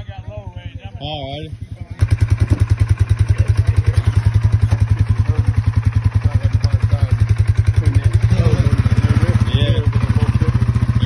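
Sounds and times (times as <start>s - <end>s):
engine running under load: 1.3s - 11.0s.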